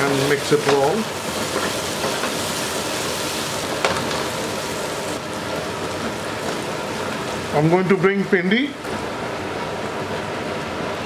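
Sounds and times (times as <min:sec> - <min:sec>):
potatoes sizzling in oil: 0:00.0 - 0:10.8.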